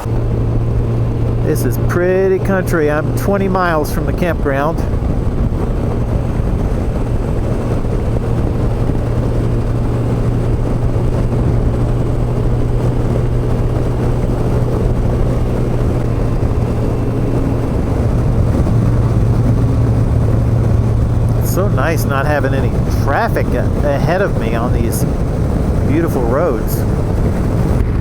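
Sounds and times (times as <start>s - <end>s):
motorcycle engine humming: 0.0s - 28.0s
road and air noise: 0.0s - 28.0s.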